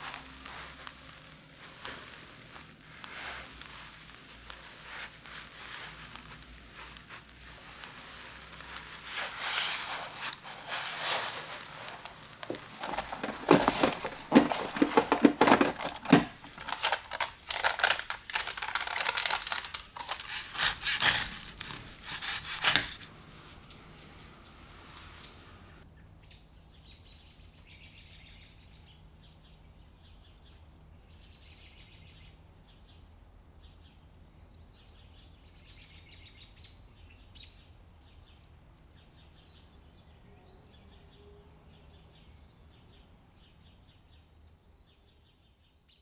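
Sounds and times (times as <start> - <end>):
faint birds chirping: 0.0 - 46.0.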